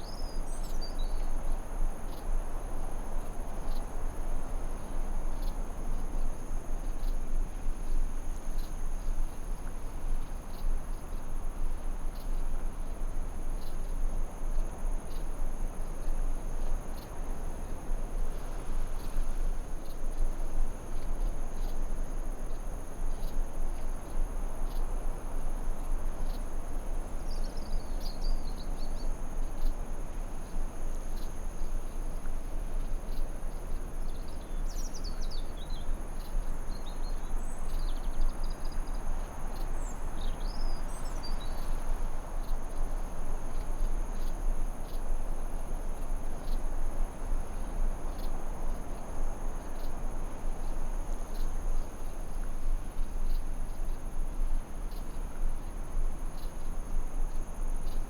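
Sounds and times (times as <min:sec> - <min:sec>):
constant hiss: 0:00.0 - 0:58.0.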